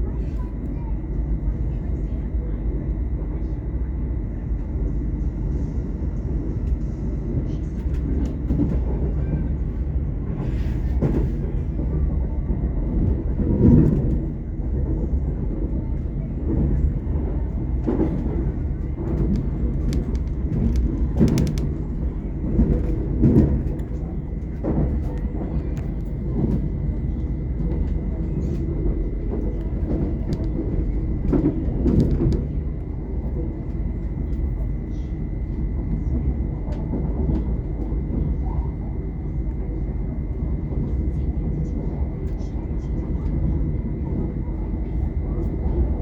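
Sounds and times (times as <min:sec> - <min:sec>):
train running rumble: 0:00.0 - 0:46.0.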